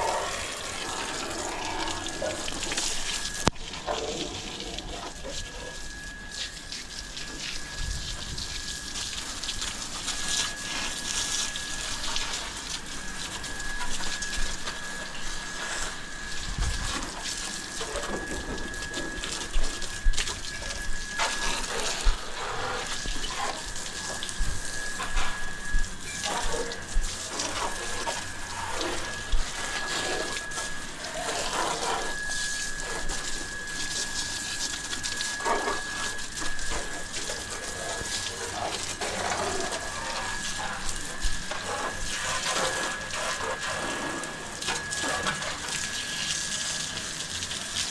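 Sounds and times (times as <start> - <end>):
steady high whine: 0.0 - 47.9
water spraying and splashing: 0.0 - 47.9.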